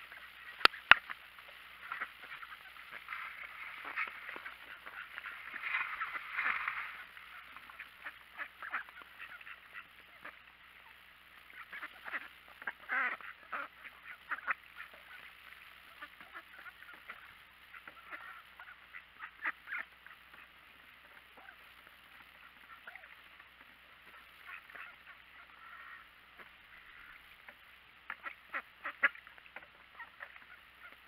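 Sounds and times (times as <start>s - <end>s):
ducks quacking: 0.0s - 31.0s.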